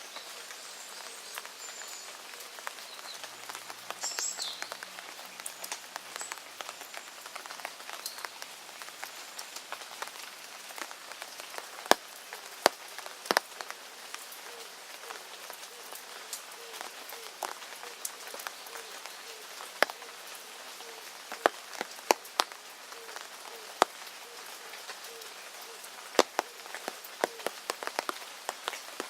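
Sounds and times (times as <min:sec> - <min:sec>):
steady rain falling: 0:00.0 - 0:29.0
sharp raindrop hits: 0:01.0 - 0:29.0.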